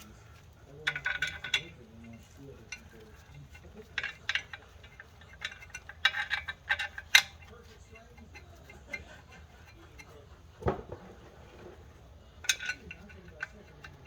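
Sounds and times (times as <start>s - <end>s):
bolts and tools clinking: 0.0s - 14.0s.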